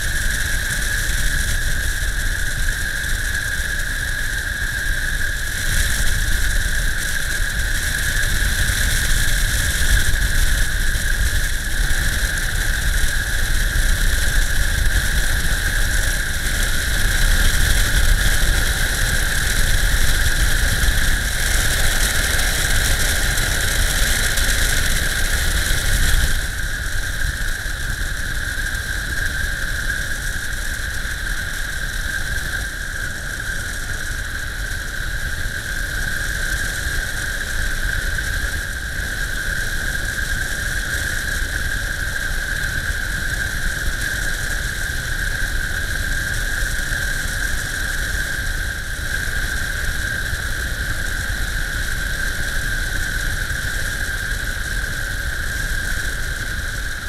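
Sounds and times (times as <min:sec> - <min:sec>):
aircraft engine and propeller: 0:00.0 - 0:57.0
steady high whine: 0:00.0 - 0:57.0.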